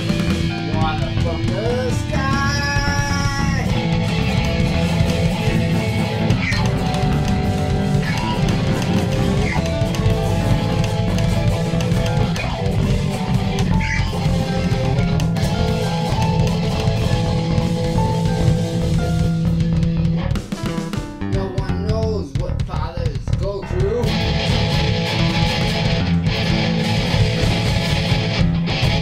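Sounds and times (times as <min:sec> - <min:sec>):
rock song on guitar and drums: 0:00.0 - 0:29.0.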